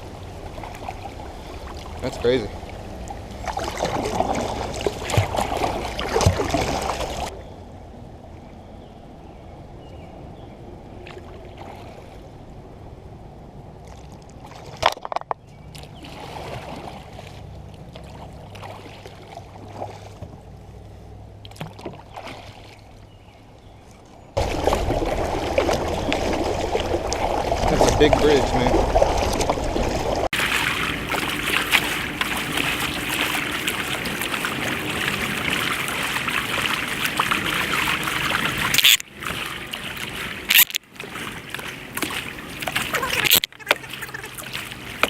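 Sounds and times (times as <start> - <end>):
water sloshing around kayak: 0.0 - 7.6, 8.8 - 12.9, 13.5 - 45.0.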